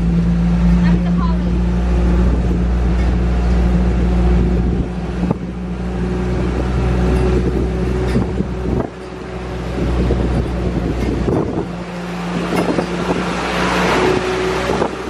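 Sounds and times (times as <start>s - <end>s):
truck engine running: 0.0s - 15.0s
truck knocks and rattles: 0.0s - 15.0s
wind buffeting microphone: 0.0s - 15.0s.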